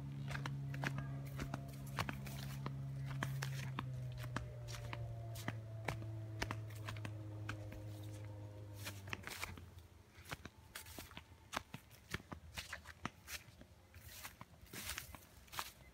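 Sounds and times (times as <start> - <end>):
footsteps crunching through twigs: 0.0 - 15.9
brush rustling against clothing: 0.8 - 15.9.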